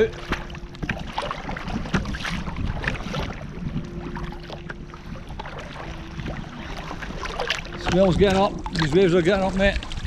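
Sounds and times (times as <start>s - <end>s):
paddle strokes splashing: 0.0s - 10.0s
sea splashing against kayak: 0.0s - 10.0s
wind buffeting microphone: 0.0s - 10.0s.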